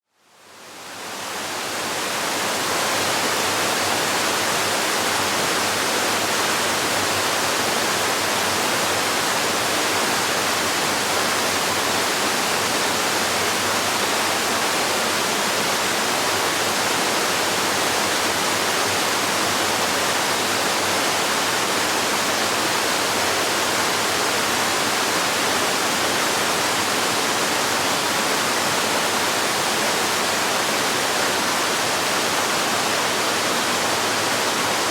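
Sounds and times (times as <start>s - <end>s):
waterfall roaring: 1.0s - 34.9s.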